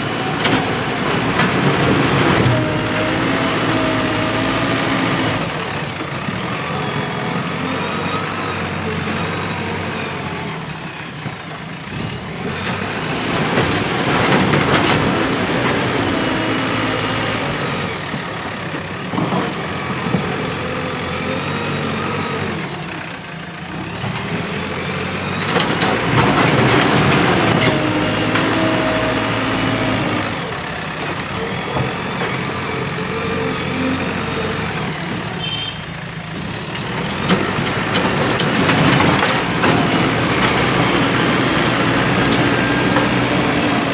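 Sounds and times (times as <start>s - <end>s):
backhoe diesel engine working: 0.0s - 43.9s.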